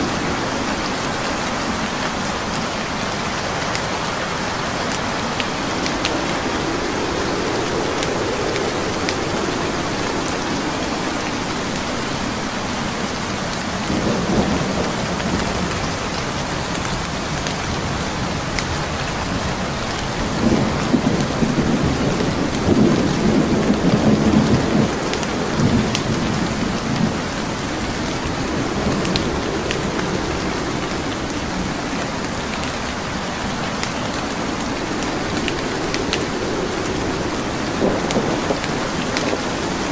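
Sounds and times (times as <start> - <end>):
wood fire crackling: 0.0 - 14.0, 14.9 - 39.9
steady rain: 0.0 - 39.9
thunder rumbling: 0.0 - 39.9.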